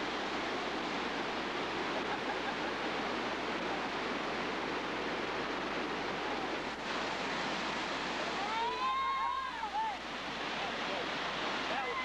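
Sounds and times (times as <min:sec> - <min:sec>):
whitewater rushing over rocks: 0:00.0 - 0:12.0.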